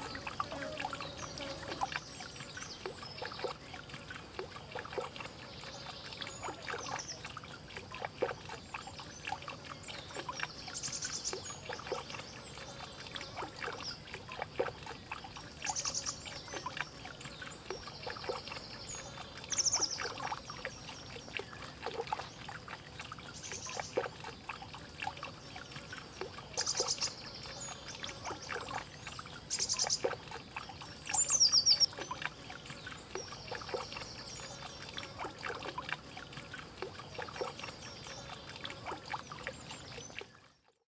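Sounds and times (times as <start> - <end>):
water trickling into pond: 0.0 - 40.9.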